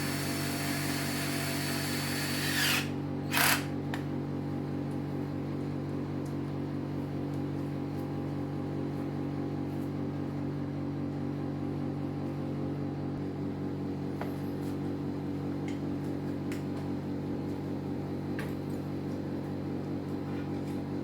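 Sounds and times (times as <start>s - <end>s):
machine hum with low tones: 0.0s - 21.0s.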